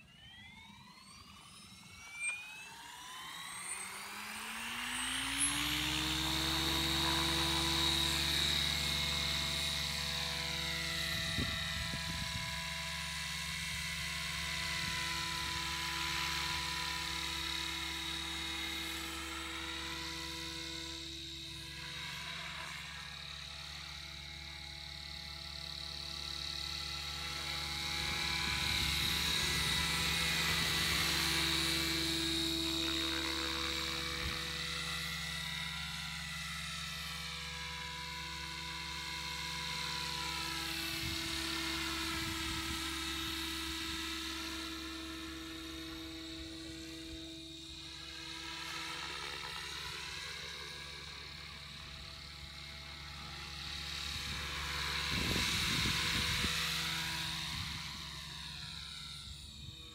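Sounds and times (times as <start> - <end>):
helicopter rotor: 0.0 - 59.9
rc helicopter motor whine: 0.0 - 59.9.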